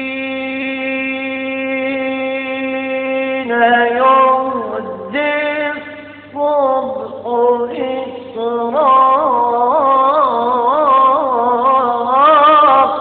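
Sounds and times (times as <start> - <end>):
man chanting unaccompanied: 0.0 - 13.0.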